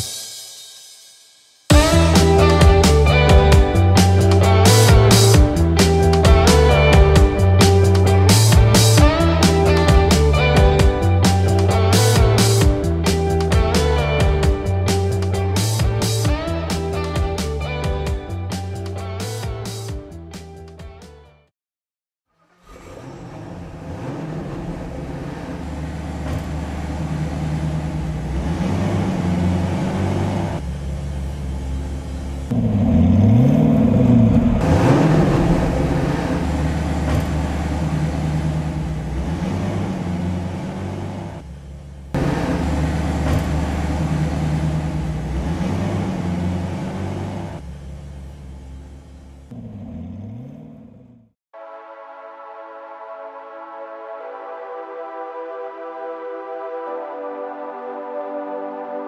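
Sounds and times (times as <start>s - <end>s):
car engine idling and revving: 1.6s - 20.9s, 22.3s - 51.4s.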